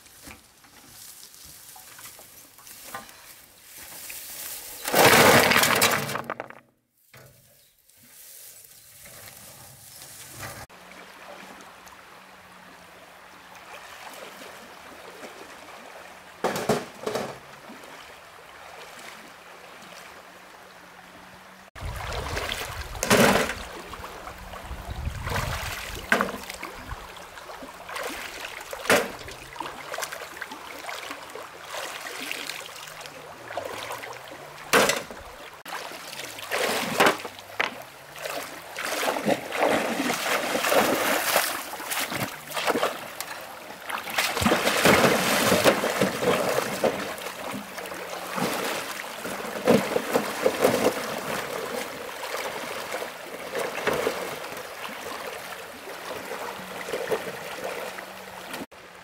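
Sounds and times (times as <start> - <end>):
water splashing and sloshing: 0.0 - 7.3, 8.1 - 59.0.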